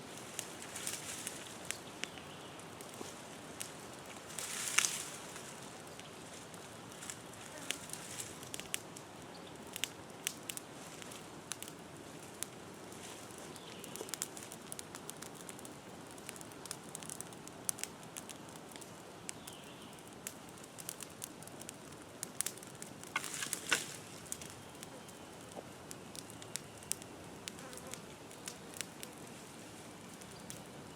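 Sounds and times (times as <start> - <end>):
brush fire crackling: 0.0 - 30.9.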